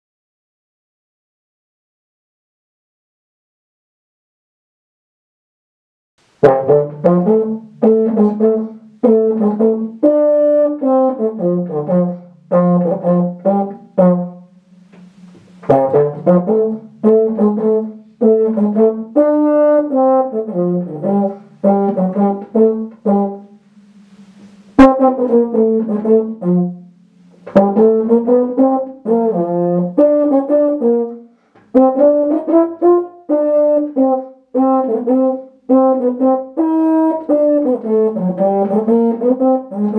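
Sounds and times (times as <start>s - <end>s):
euphonium playing detached notes: 6.3s - 39.9s.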